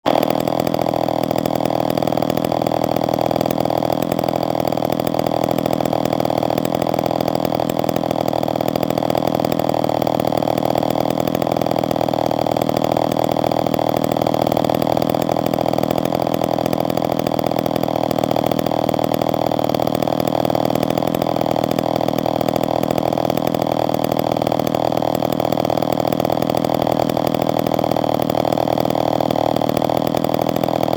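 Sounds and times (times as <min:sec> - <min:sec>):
chainsaw engine idling: 0:00.1 - 0:30.9.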